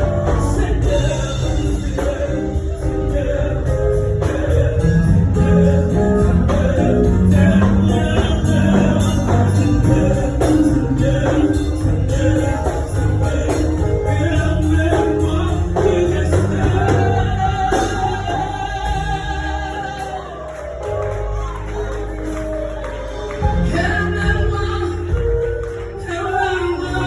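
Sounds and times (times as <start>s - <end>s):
gospel singing over a band: 0.0s - 27.0s
percussion: 0.0s - 27.0s
steady bass line: 0.0s - 27.0s.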